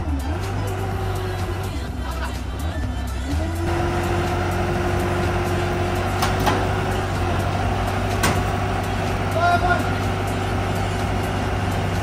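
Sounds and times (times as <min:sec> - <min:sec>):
engine whine: 0:00.0 - 0:12.0
heavy vehicle engine running: 0:00.0 - 0:12.0.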